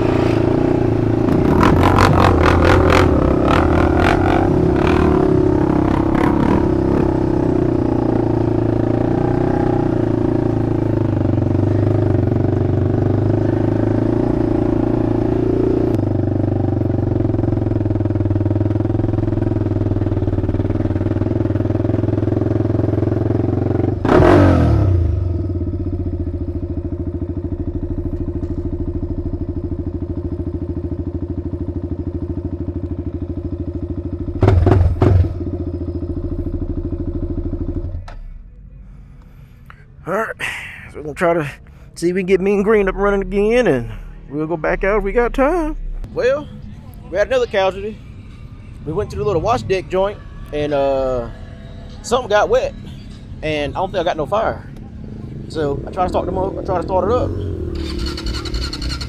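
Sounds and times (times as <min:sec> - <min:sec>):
quad engine running: 0:00.0 - 0:38.6, 0:48.7 - 0:59.0.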